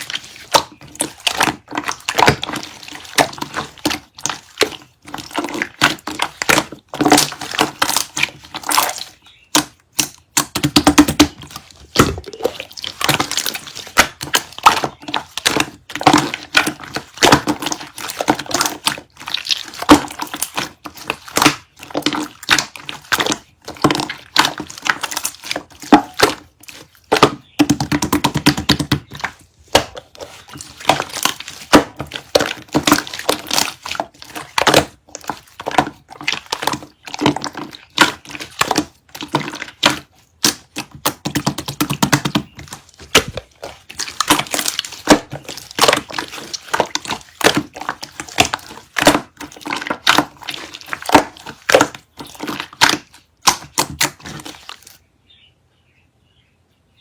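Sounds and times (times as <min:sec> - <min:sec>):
crackling and crunching: 0:00.0 - 0:55.0.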